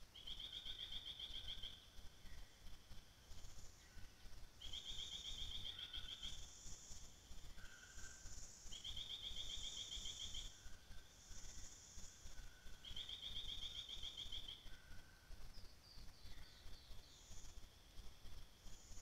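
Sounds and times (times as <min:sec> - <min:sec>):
high hiss: 0:00.0 - 0:19.0.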